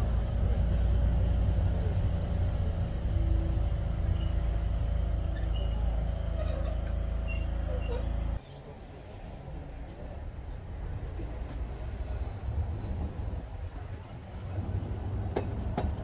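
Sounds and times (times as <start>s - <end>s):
tram running hum: 0.0s - 16.0s.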